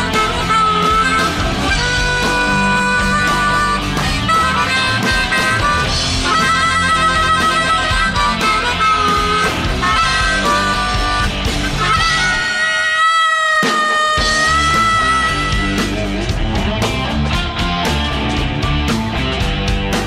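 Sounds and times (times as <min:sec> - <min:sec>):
blues harmonica bending notes: 0:00.0 - 0:20.0
electric blues-rock band: 0:00.0 - 0:20.0.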